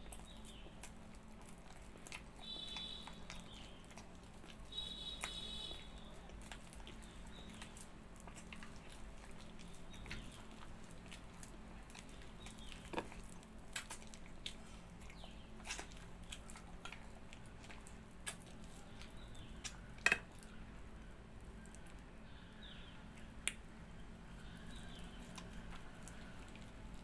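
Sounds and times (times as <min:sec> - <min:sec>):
wet chewing and lip-smacking: 0:00.0 - 0:27.0.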